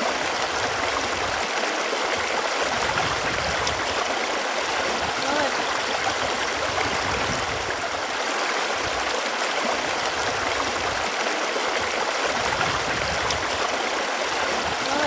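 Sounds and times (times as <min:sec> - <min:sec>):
running water flowing: 0:00.0 - 0:15.0.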